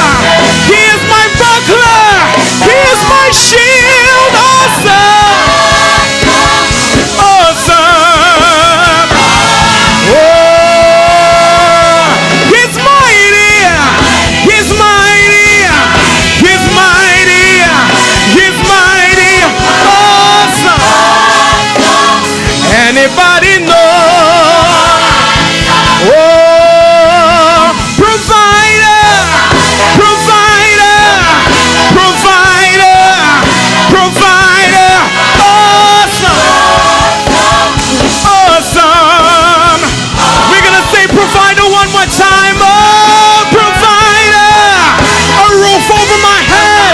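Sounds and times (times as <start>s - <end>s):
band accompaniment: 0.0s - 46.9s
gospel praise singing: 0.0s - 46.9s
lead voice singing with vibrato: 0.0s - 46.9s.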